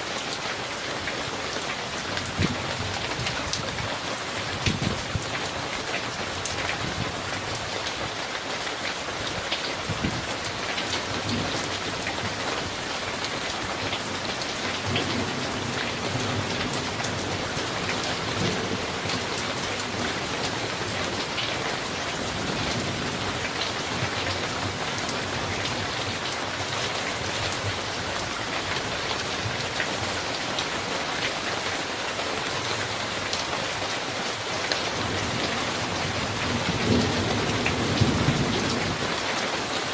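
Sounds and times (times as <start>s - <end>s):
heavy rain falling: 0.0s - 39.9s
raindrops tapping on hard surfaces: 0.2s - 39.9s.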